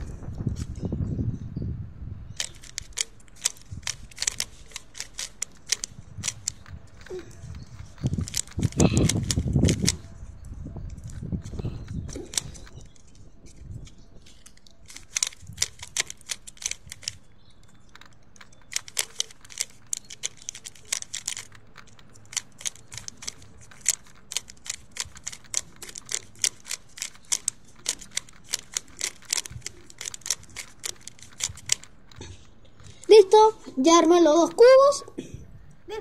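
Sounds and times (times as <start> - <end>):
puzzle cube clicking: 2.3 - 34.8.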